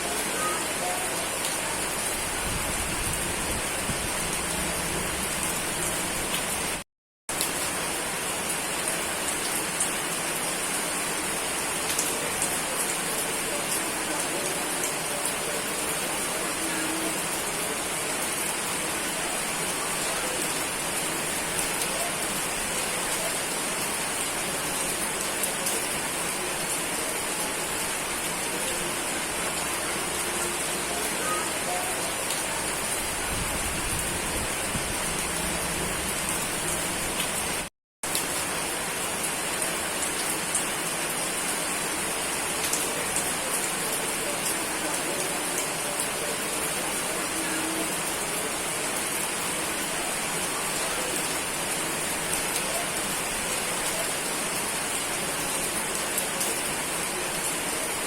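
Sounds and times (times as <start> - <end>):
heavy rain hissing: 7.4 - 58.0.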